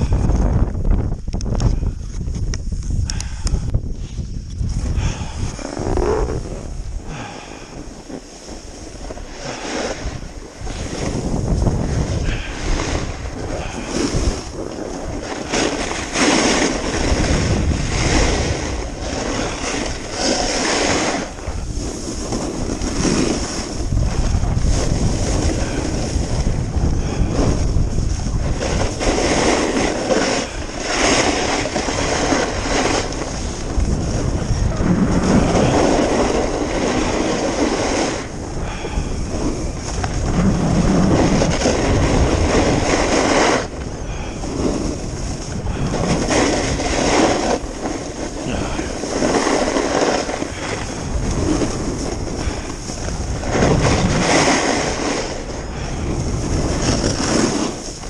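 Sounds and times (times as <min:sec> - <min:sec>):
wind buffeting microphone: 0:00.0 - 0:58.0
skis carving packed snow: 0:01.6 - 0:58.0.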